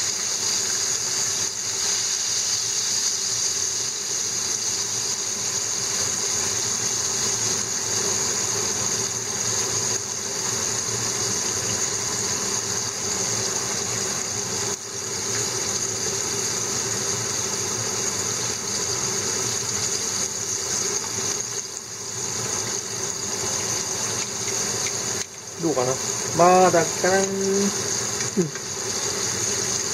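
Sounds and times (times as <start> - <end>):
fish sizzling in hot oil: 0.0 - 29.9.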